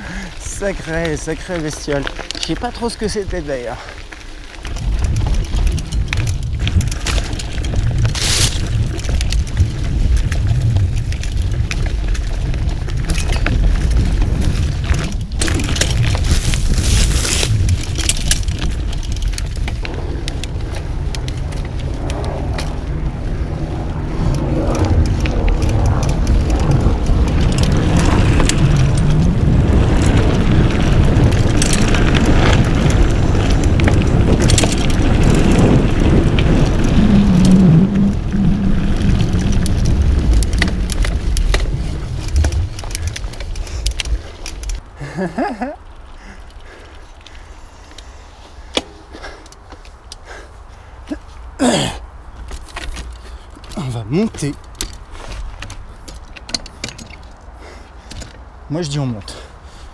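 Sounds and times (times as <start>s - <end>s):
tyres rumbling on dirt: 0.0s - 59.4s
bike clicking and rattling: 0.0s - 59.9s
wind buffeting microphone: 0.0s - 59.9s.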